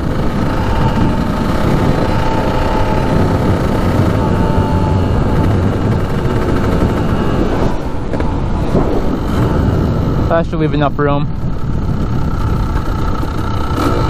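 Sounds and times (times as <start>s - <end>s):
dirt bike engine running: 0.0s - 14.0s
wind rumbling on microphone: 0.0s - 14.0s.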